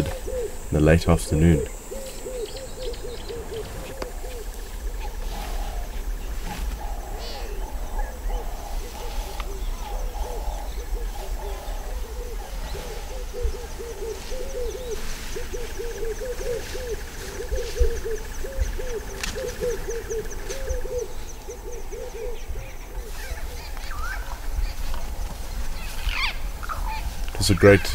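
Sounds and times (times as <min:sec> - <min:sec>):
high chirping: 0:00.0 - 0:24.9
low arched animal calls: 0:00.0 - 0:27.9.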